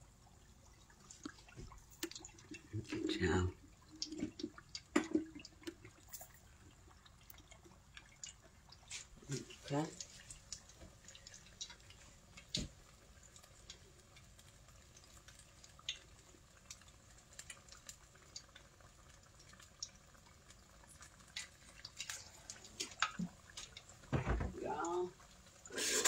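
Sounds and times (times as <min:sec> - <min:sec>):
oil popping and sizzling: 0:00.0 - 0:26.0.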